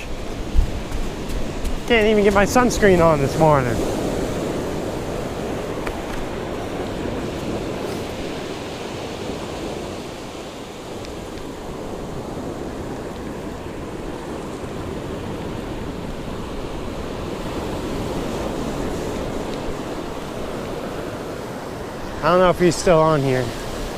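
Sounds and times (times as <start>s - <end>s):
ocean surf washing on beach: 0.0s - 23.9s
wind: 0.0s - 23.9s.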